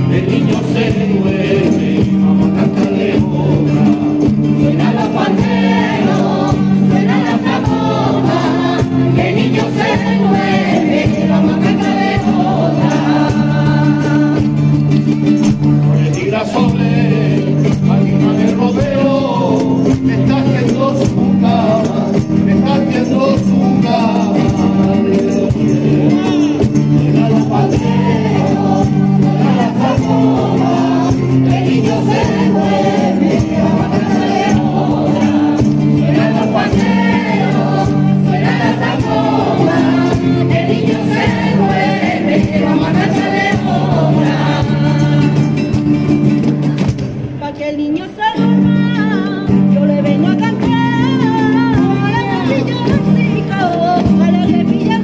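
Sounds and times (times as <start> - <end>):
choir singing: 0.0 - 14.6, 16.0 - 45.8
strummed guitars: 0.0 - 55.0.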